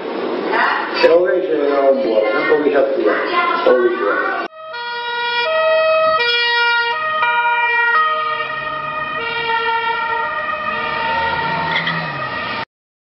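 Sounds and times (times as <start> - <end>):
emergency vehicle sirens: 0.0 - 12.7.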